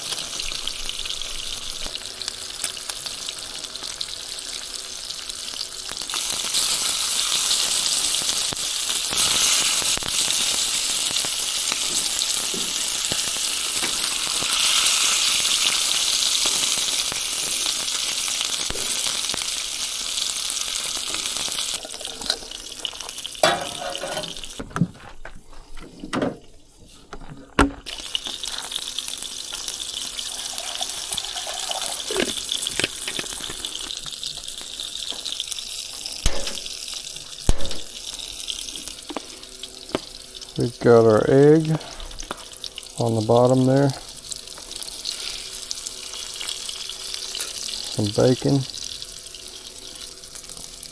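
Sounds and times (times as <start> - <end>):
bacon and sausage sizzling on griddle: 0.0 - 24.7, 27.8 - 50.9.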